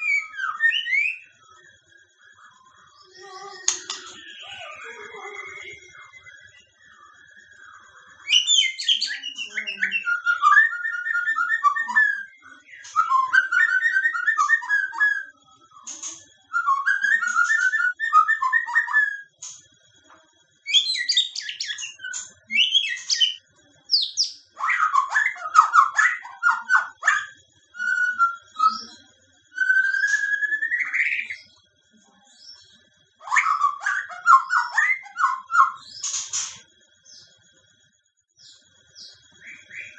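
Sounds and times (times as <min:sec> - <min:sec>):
bird singing whistled phrases: 0:00.0 - 0:01.7, 0:02.3 - 0:07.1, 0:07.8 - 0:19.6, 0:20.6 - 0:31.6, 0:32.4 - 0:36.6.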